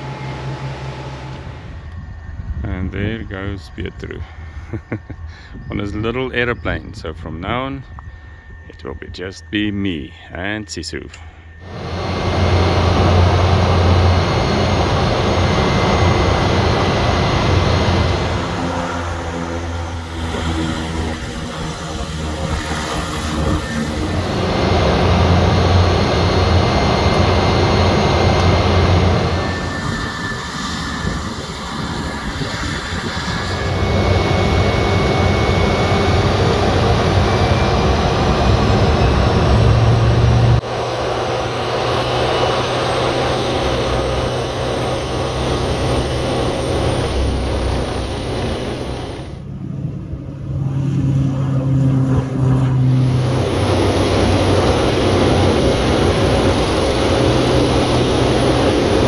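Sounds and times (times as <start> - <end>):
propeller plane engines running: 0.0 - 59.0.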